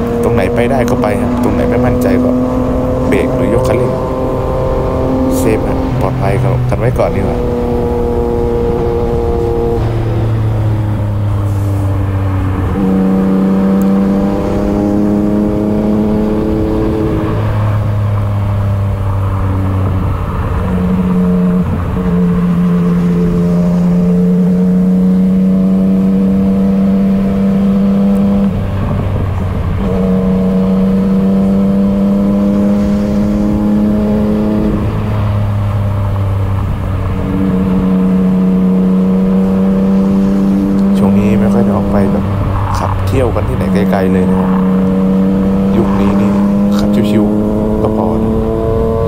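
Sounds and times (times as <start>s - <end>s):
motorcycle engine with loud exhaust: 0.0s - 49.0s.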